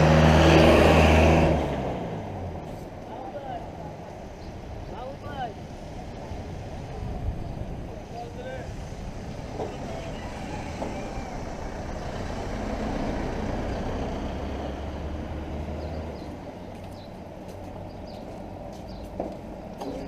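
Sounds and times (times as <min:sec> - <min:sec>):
vehicle engine rumble passing: 0:00.0 - 0:20.0.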